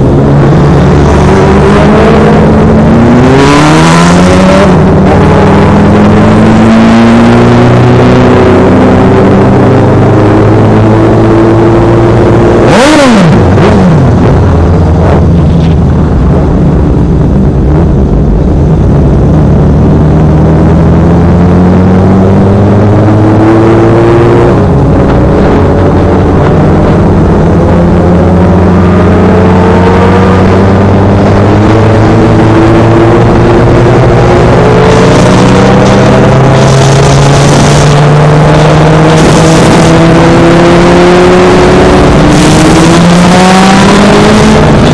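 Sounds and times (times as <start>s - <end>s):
motorcycle engine accelerating: 0.0s - 44.9s
passing vehicle: 0.0s - 44.9s.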